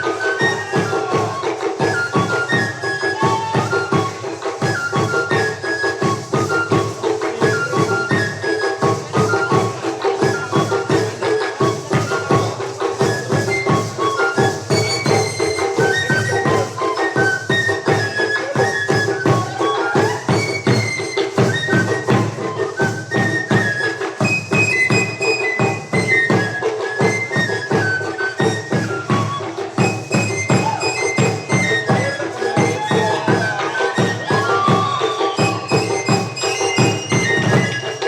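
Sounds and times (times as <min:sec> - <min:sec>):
fast drum and rattle beat: 0:00.0 - 0:38.0
flute melody: 0:00.0 - 0:38.0.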